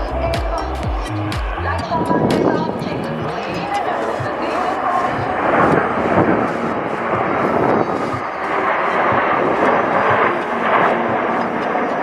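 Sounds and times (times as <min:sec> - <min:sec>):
aircraft engine rushing: 0:00.0 - 0:12.0.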